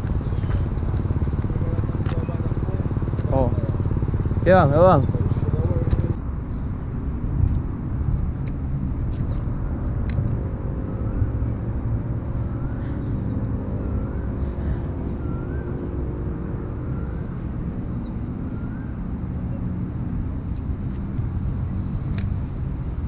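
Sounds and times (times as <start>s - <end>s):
low outdoor rumble: 0.0s - 23.0s
steady hum: 0.0s - 23.0s.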